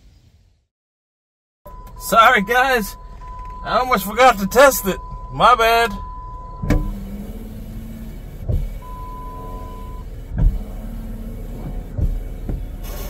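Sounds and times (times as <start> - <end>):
wiper motor hum: 1.7 - 13.0.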